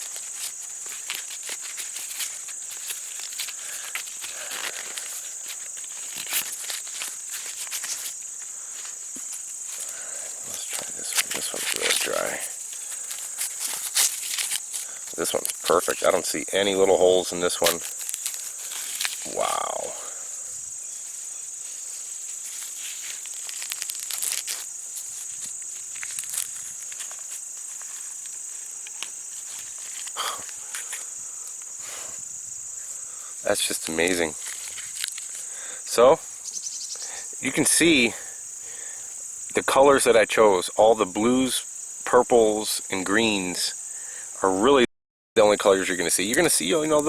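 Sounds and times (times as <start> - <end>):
corn husks rustling and crackling: 0.0 - 43.8, 45.4 - 47.0
high-pitched insect drone: 0.0 - 44.4
crickets chirping chorus: 0.0 - 44.8, 45.4 - 47.0.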